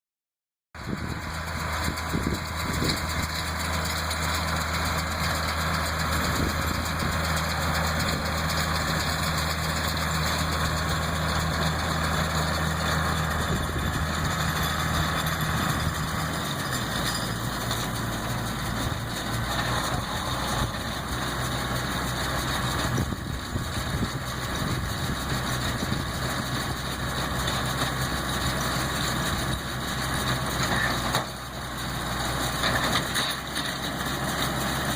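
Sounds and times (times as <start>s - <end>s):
baler mechanical noise: 0.8s - 34.9s
tractor engine running: 0.8s - 34.9s.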